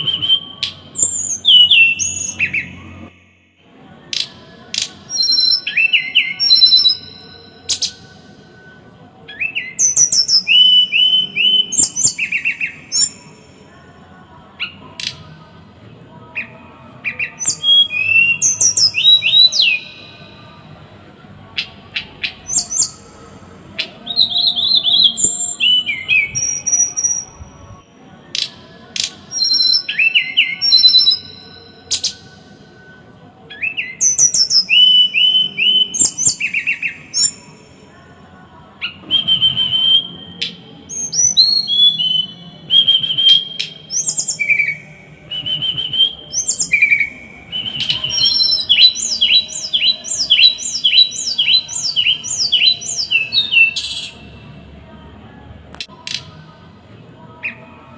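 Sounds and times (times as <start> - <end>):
songbird singing harsh phrases: 0.0 - 3.4, 4.1 - 8.4, 9.3 - 13.6, 16.3 - 20.6, 21.5 - 32.4, 33.5 - 37.8, 38.8 - 54.4.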